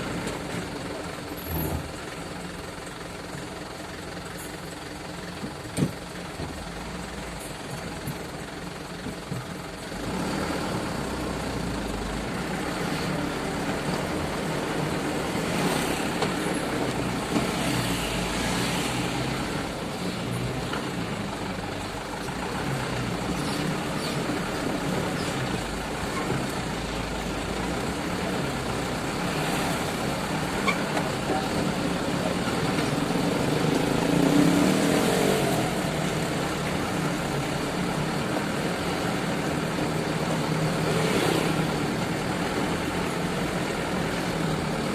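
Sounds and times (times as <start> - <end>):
truck engine under load: 0.0 - 44.9.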